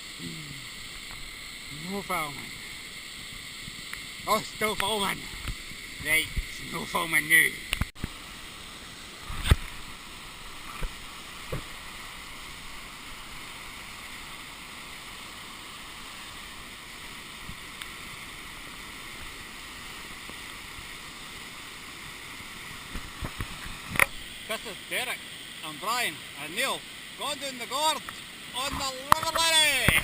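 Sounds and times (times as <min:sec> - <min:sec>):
river water rushing: 0:04.0 - 0:30.0.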